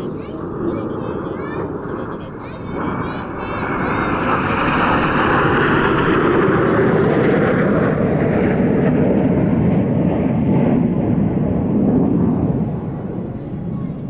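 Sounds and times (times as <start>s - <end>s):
jet roar passing overhead: 0.0s - 14.0s.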